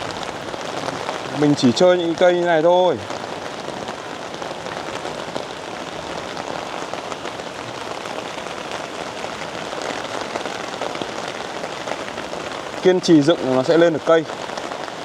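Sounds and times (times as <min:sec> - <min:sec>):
rain pattering on leaves: 0:00.0 - 0:15.0.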